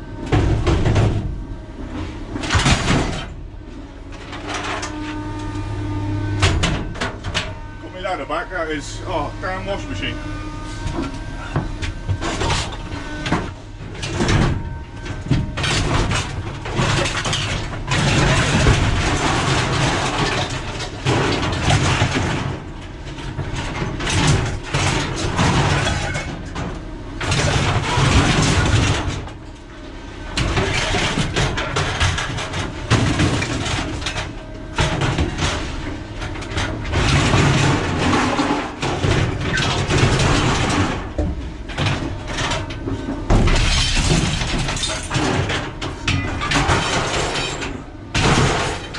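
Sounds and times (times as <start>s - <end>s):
scrap metal scraping and clattering: 0.3s - 48.9s.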